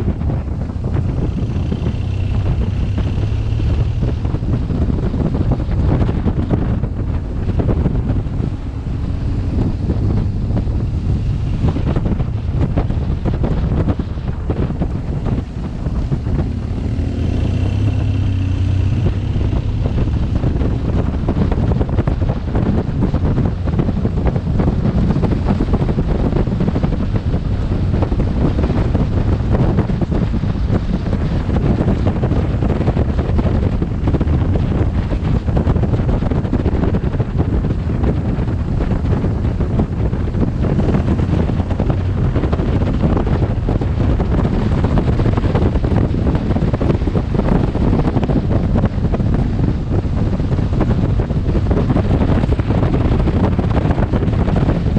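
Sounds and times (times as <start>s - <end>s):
motorcycle engine rising: 0.0s - 54.9s
wind rumbling on microphone: 0.0s - 54.9s.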